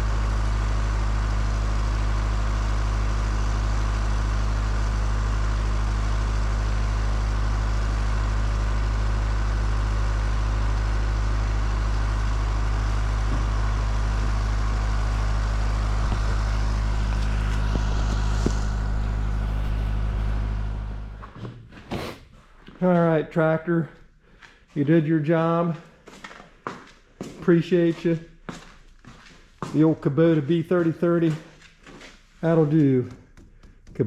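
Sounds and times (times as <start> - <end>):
diesel tractor engine idling: 0.0 - 21.6, 26.8 - 34.0.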